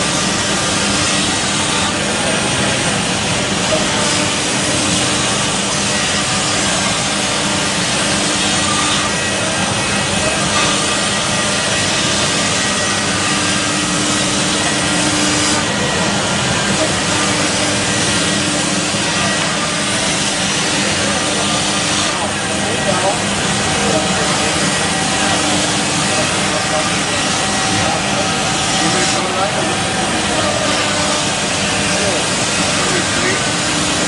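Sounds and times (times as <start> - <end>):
router cutting wood: 0.0 - 34.0.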